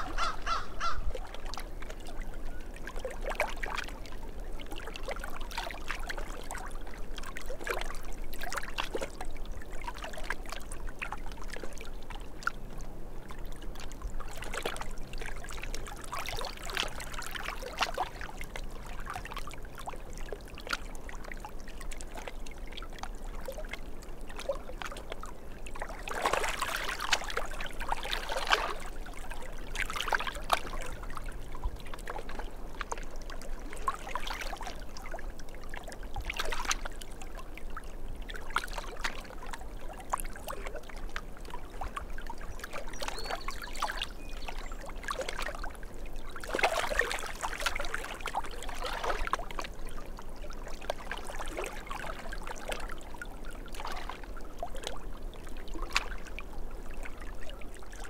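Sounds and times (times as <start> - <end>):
small waves lapping against rocks: 0.0 - 58.0.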